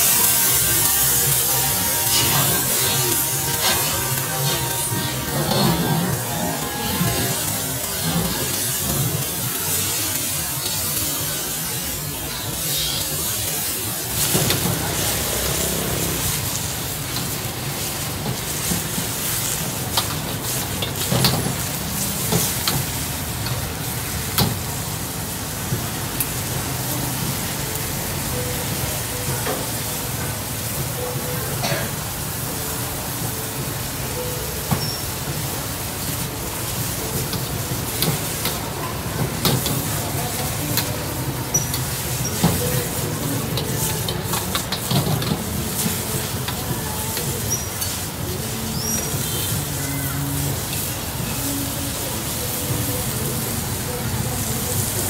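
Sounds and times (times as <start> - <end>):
greens sizzling in a wok: 0.0 - 55.0.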